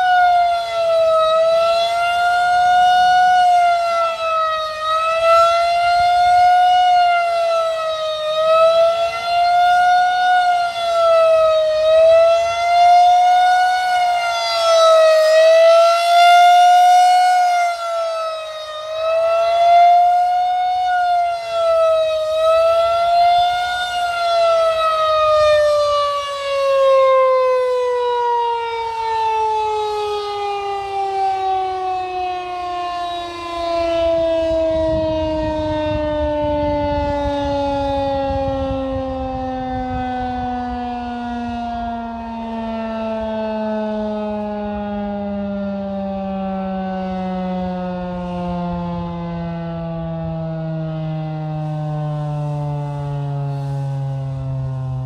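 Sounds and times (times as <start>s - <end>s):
warning siren wavering tone: 0.0s - 55.0s.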